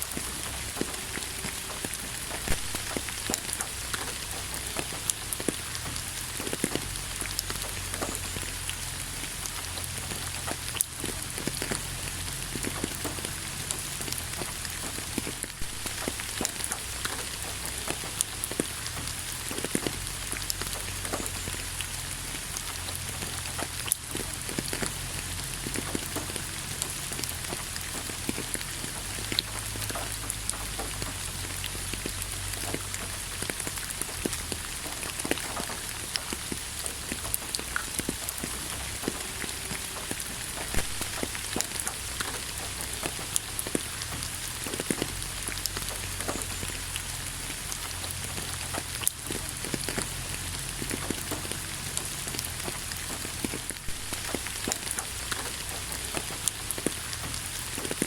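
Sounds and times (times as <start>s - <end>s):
rain hissing: 0.0s - 58.0s
raindrops pattering on a surface: 0.0s - 58.0s.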